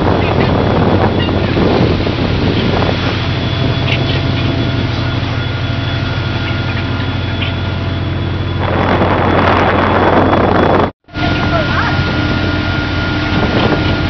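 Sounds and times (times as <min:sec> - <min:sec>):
boat engine humming: 0:00.0 - 0:14.0
faint machinery whine: 0:00.0 - 0:14.0
sea water rushing: 0:00.0 - 0:14.0
wind: 0:00.0 - 0:14.0.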